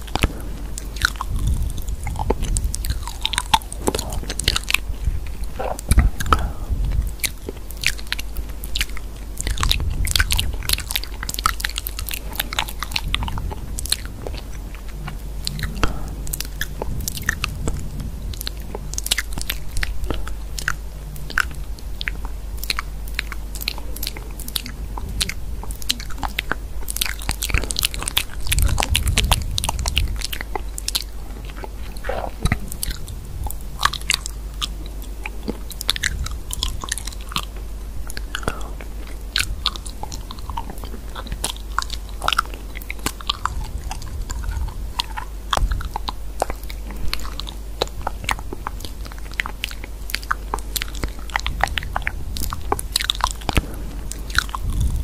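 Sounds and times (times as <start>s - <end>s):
crisp clicks and crunches: 0.0s - 55.0s
low hum: 0.0s - 55.0s.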